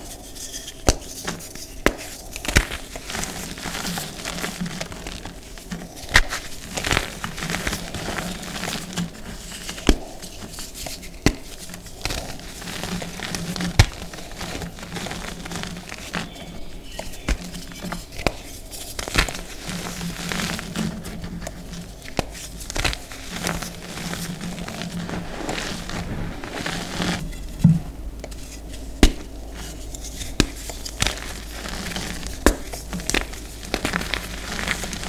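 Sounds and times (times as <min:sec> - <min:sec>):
hands crumbling chalk powder: 0:00.0 - 0:27.5, 0:28.2 - 0:35.0.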